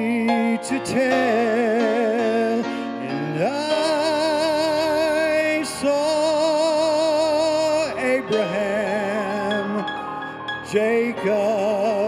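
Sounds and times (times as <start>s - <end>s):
man singing gospel song: 0.0s - 12.0s.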